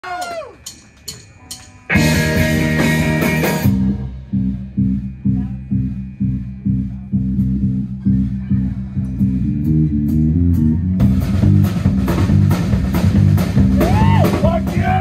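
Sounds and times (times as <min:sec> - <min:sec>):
live rock band: 0:00.0 - 0:15.0.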